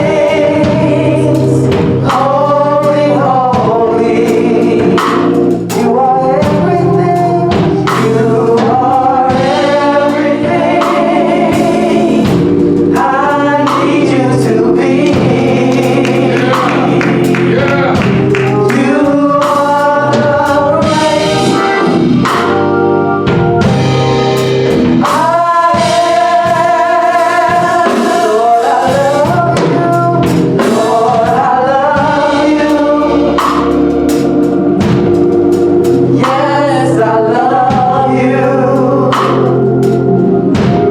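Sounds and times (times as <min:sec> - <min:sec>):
gospel choir singing: 0:00.0 - 0:40.9
instrumental backing: 0:00.0 - 0:40.9.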